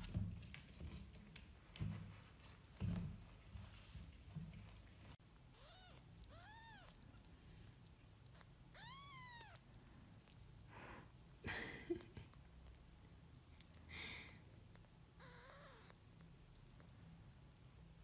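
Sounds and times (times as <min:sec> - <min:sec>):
soft rustling: 0:00.0 - 0:18.0.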